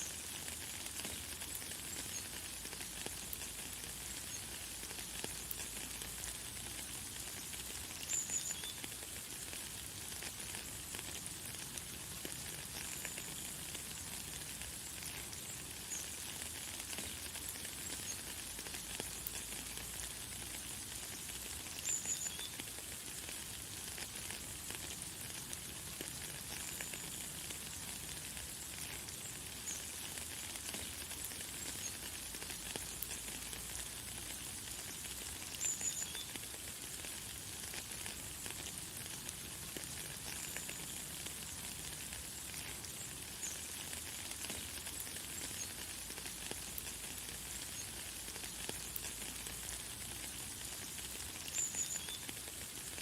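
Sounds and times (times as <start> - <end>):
light rain hissing: 0.0 - 53.0.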